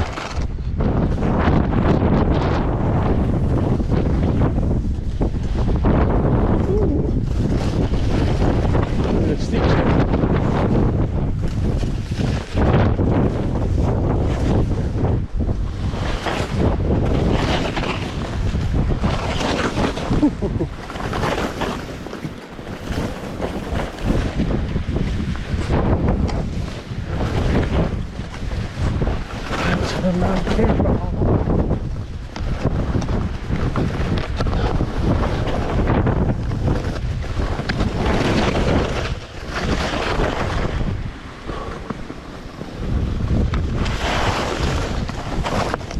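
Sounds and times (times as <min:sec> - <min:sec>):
strong wind buffeting microphone: 0:00.0 - 0:45.9.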